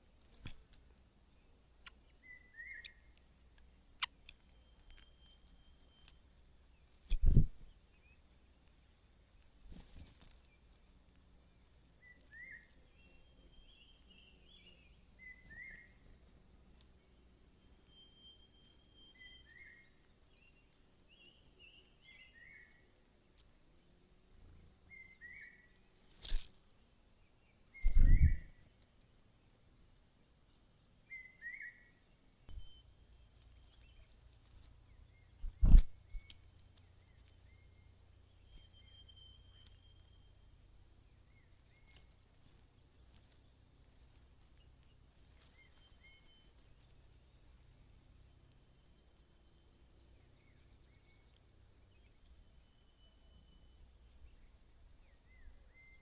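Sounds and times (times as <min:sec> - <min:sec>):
bird chirping: 0:00.0 - 0:28.8, 0:30.4 - 0:56.0.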